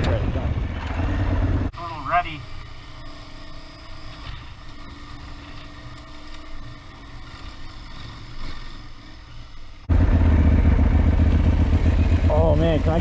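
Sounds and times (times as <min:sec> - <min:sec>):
motorcycle engine running: 0:00.0 - 0:08.8, 0:09.8 - 0:13.0
low rumble of ride noise: 0:00.0 - 0:13.0.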